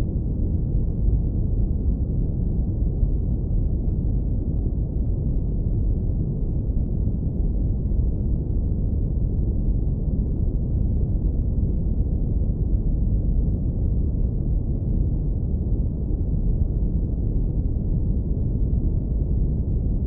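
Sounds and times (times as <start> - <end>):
deep brown noise rumble: 0.0 - 20.0.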